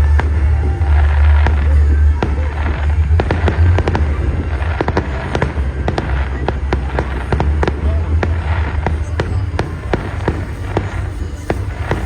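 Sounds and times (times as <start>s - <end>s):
fireworks bangs and pops: 0.0s - 12.0s
low rumble: 0.0s - 12.0s.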